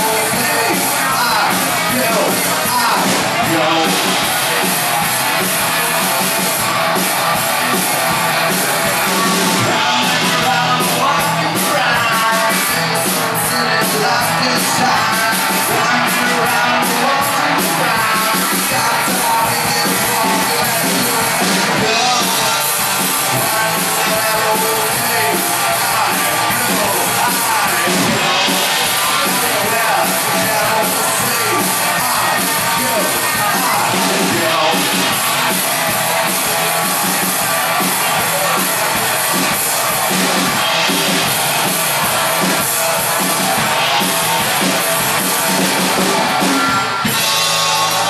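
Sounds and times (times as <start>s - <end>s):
rock band playing live: 0.0s - 48.0s.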